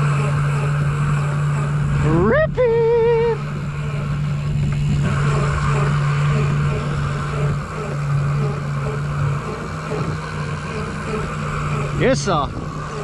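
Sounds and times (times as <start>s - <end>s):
boat engine humming: 0.0s - 13.0s
water rushing along hull: 0.0s - 13.0s.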